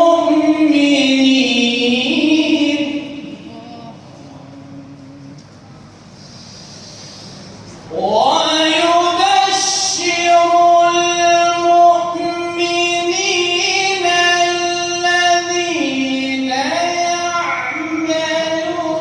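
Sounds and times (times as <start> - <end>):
person reciting melodically: 0.0 - 5.6, 7.8 - 19.0.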